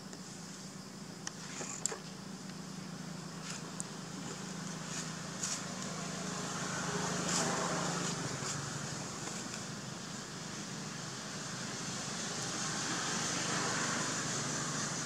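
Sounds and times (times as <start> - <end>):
low engine hum: 2.2 - 15.0.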